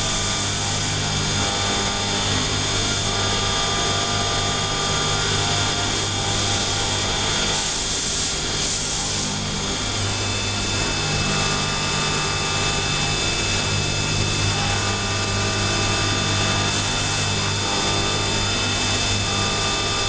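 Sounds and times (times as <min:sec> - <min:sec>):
machine cutting metal: 0:00.0 - 0:20.0
machine whining tones: 0:00.0 - 0:20.0.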